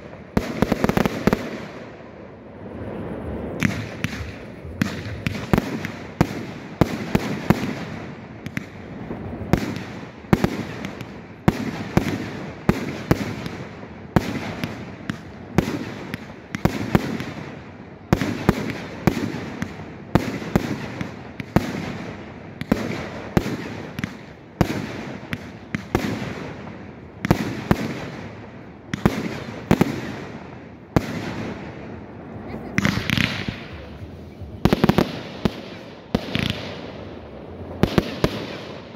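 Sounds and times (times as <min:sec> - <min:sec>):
fireworks bangs with echoes: 0:00.0 - 0:38.9.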